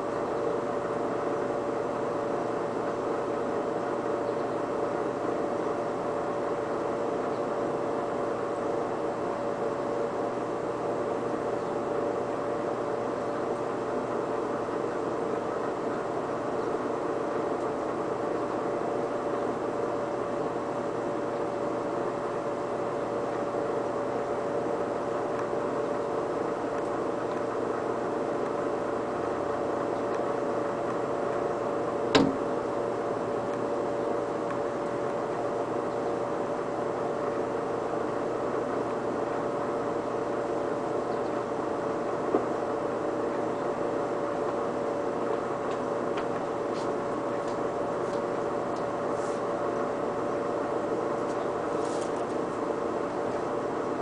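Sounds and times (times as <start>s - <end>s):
air conditioner and fan humming: 0.0s - 54.0s.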